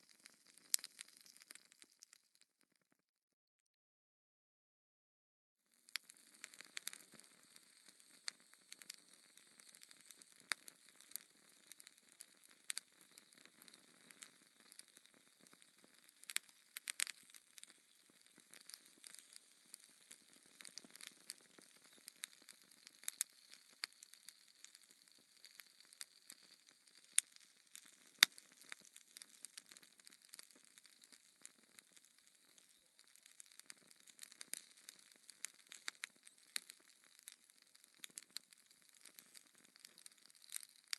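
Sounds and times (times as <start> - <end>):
wood fire crackling: 0.0 - 2.1, 5.9 - 40.9.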